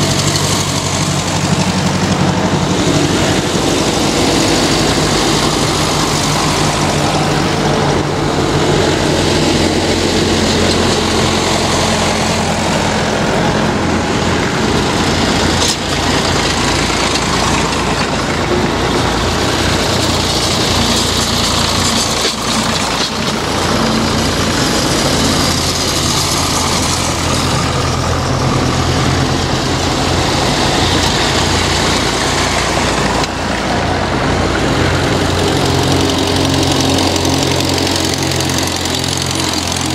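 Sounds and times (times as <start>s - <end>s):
tractor engines driving past: 0.0s - 39.9s.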